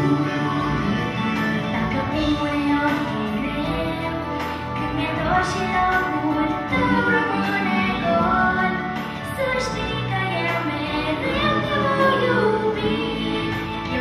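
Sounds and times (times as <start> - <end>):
instrumental accompaniment: 0.0 - 14.0
girl singing into a microphone: 1.9 - 14.0.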